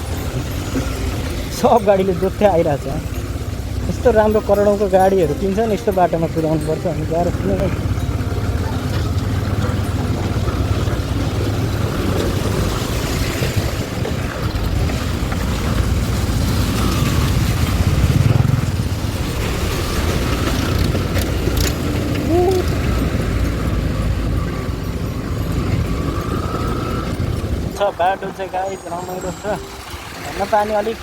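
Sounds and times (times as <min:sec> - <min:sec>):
motorcycle engine rumbling: 0:00.0 - 0:31.0.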